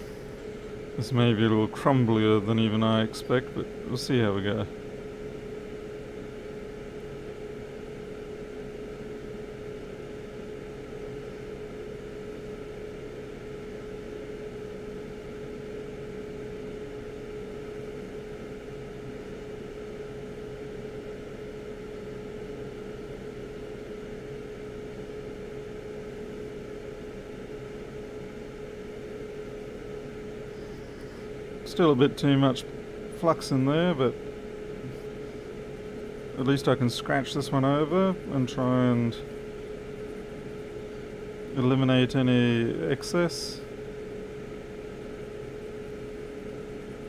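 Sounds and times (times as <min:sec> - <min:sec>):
small fan motor humming: 0:00.0 - 0:47.0.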